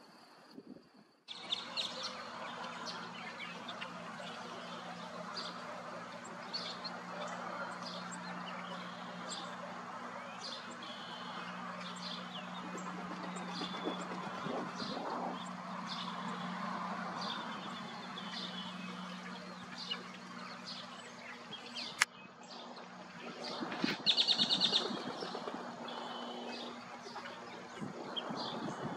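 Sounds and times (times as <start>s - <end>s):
steady low hum: 0.0s - 28.9s
wild birds chirping: 1.3s - 28.9s.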